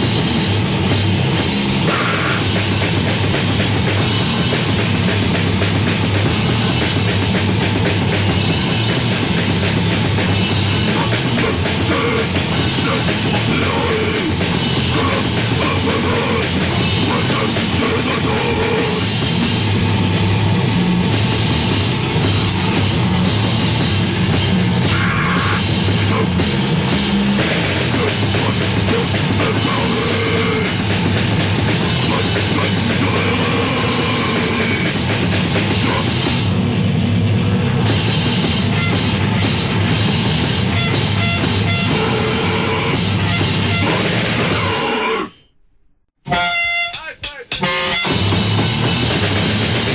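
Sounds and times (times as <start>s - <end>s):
drum kit playing: 0.0s - 44.8s, 46.2s - 49.9s
heavy metal music: 0.0s - 45.5s, 46.2s - 49.9s
bass guitar: 0.0s - 49.9s
distorted guitars: 0.0s - 49.9s.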